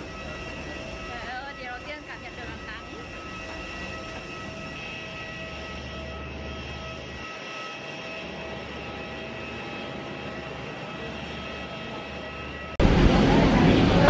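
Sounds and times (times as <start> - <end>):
jet airliner engine whine: 0.0 - 14.0.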